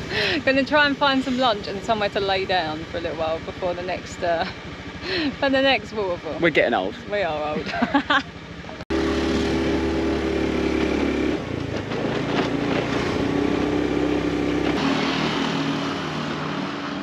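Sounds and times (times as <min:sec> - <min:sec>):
scooter engine running: 0:00.0 - 0:17.0
wind and road noise: 0:00.0 - 0:17.0.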